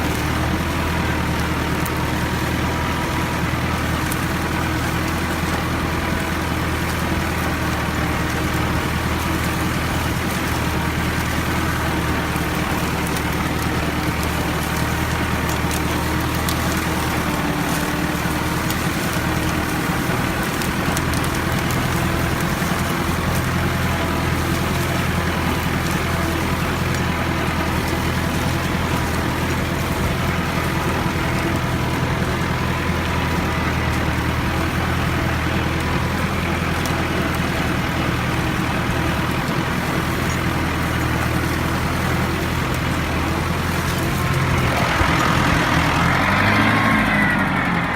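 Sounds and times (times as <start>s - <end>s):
plow clatter: 0.0s - 47.9s
tractor diesel engine under load: 0.0s - 47.9s.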